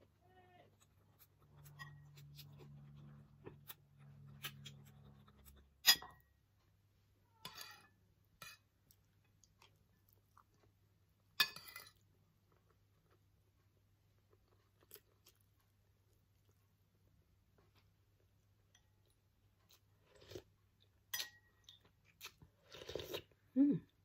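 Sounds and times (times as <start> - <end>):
faint low hum: 0.0 - 24.0
quiet chewing: 0.6 - 6.8, 8.5 - 24.0.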